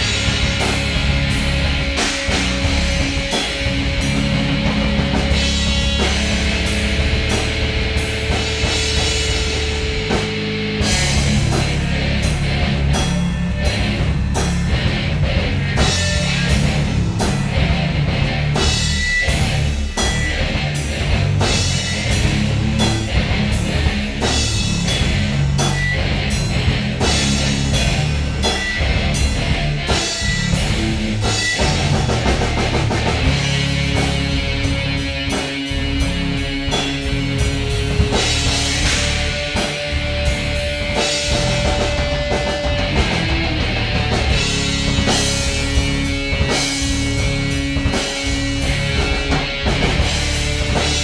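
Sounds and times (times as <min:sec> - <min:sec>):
drum kit playing busily: 0:00.0 - 0:51.0
rock band jamming: 0:00.0 - 0:51.0.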